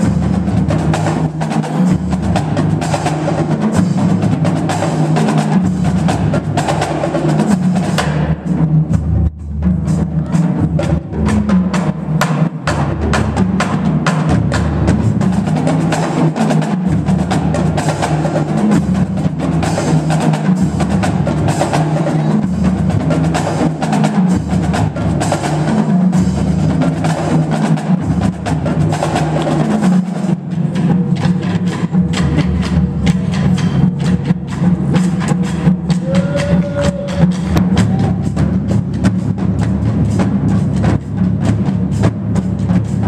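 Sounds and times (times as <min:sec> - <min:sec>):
marching drumline cadence: 0:00.0 - 0:43.0.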